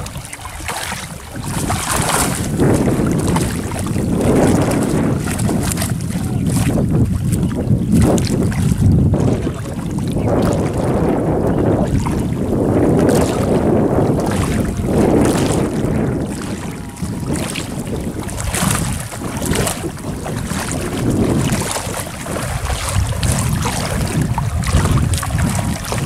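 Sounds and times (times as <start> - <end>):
water sloshing from wading: 0.0 - 26.0
wind buffeting microphone: 0.0 - 26.0.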